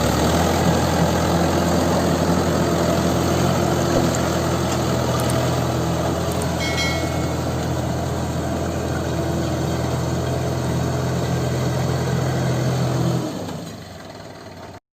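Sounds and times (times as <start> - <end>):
diesel tractor engine running: 0.0 - 14.8.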